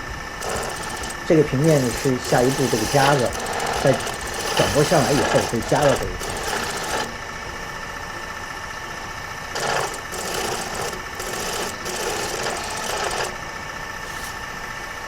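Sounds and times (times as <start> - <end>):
gouge rasping on spinning wood: 0.0 - 8.2, 9.5 - 15.0
wood lathe humming: 0.0 - 15.0.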